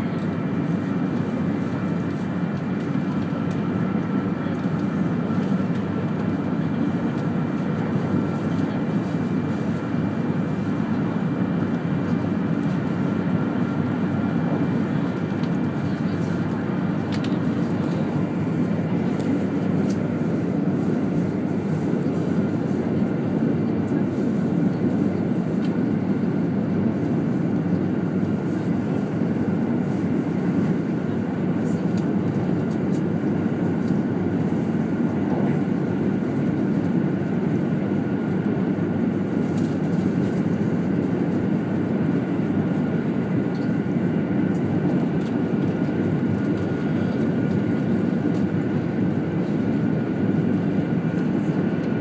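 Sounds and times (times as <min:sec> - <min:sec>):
train cabin low rumble: 0:00.0 - 0:52.0.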